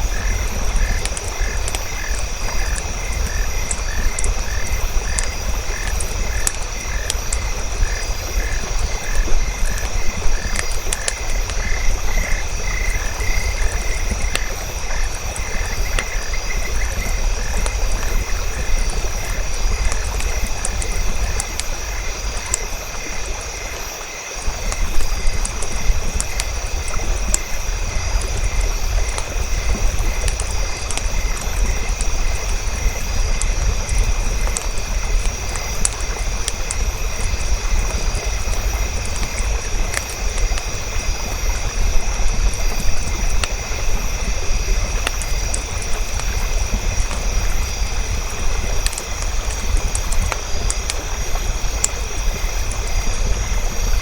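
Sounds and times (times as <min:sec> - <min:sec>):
fire crackling and popping: 0:00.0 - 0:54.0
insects droning: 0:00.0 - 0:54.0.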